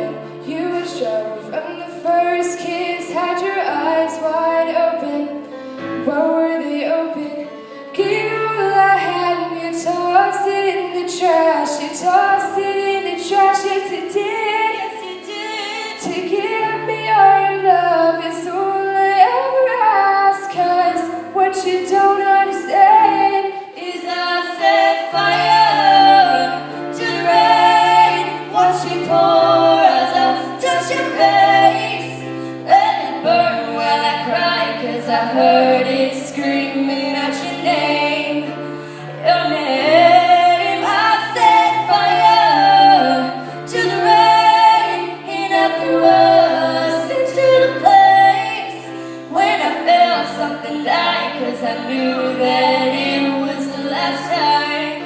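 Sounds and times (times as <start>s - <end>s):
two women singing in harmony: 0.0s - 55.0s.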